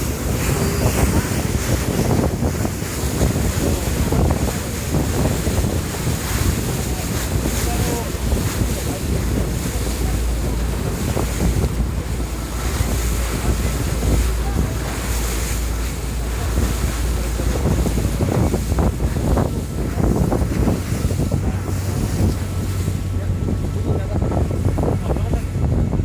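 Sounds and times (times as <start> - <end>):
rushing water: 0.0 - 26.0
steady low rumble: 0.0 - 26.0
wind buffeting microphone: 0.0 - 26.0.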